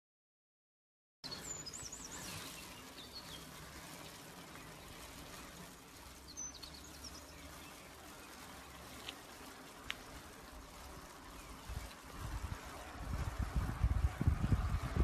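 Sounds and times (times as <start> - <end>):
small birds chirping: 1.2 - 15.0
steady background hiss: 1.3 - 13.8.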